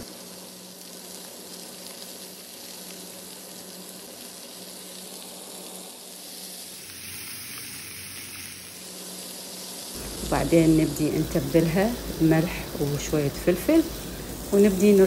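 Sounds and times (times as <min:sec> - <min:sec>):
ribs sizzling in a frying pan: 0:00.0 - 0:15.0.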